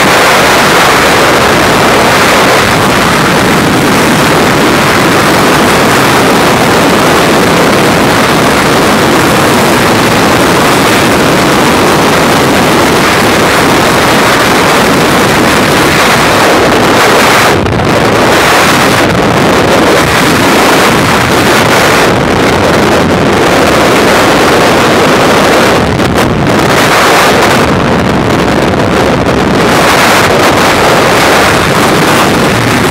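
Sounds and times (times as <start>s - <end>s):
wind roaring over microphone: 0.0s - 32.9s.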